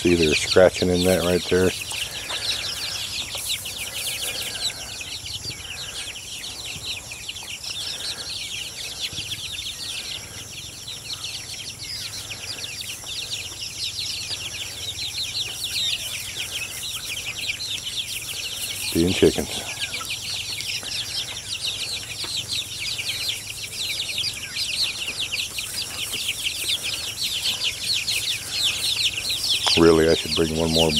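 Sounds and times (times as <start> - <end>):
chicks cheeping: 0.0 - 30.9.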